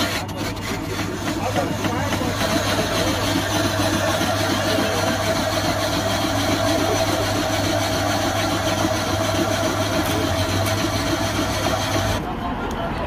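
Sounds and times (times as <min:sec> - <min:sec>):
electric ice shaver humming: 0:00.0 - 0:12.2.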